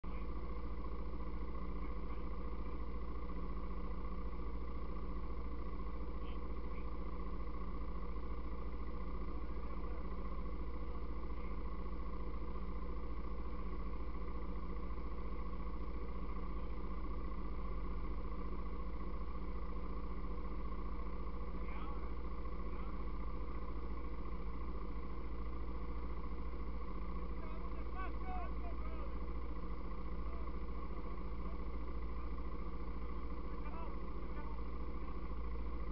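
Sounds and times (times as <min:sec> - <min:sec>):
atv engine idling: 0:00.0 - 0:35.9.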